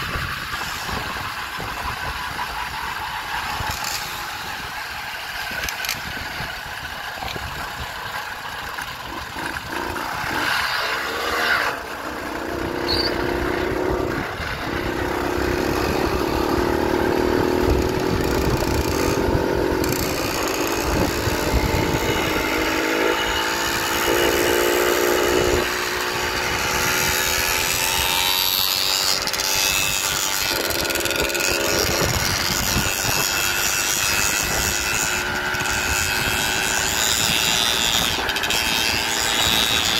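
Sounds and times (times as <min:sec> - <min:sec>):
wind rumble on microphone: 0:00.0 - 0:10.4, 0:12.5 - 0:39.9
small gasoline engine buzzing: 0:00.0 - 0:39.9.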